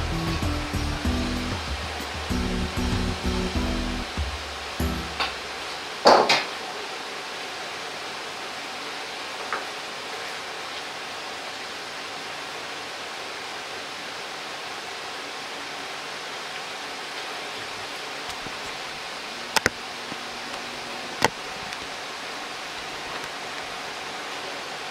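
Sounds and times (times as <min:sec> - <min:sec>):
background hiss: 0:00.0 - 0:24.9.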